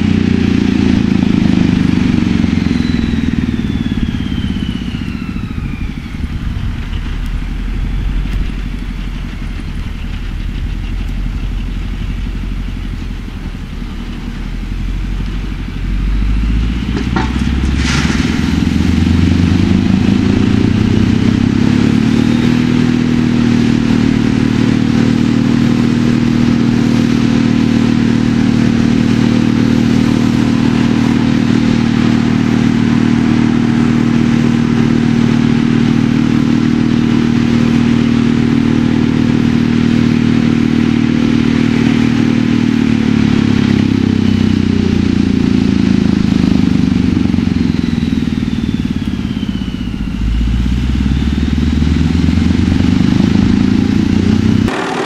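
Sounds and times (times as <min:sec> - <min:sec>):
wood chipper engine: 0:00.0 - 0:55.0.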